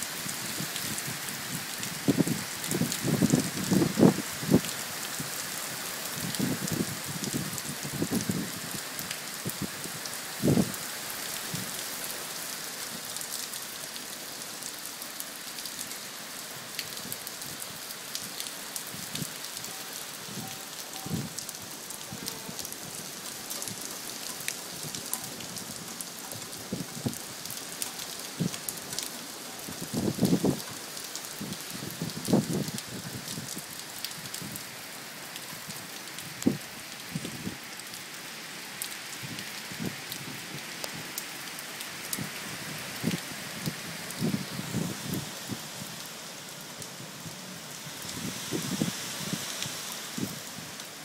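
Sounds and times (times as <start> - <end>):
heavy rain on street: 0.0 - 51.0.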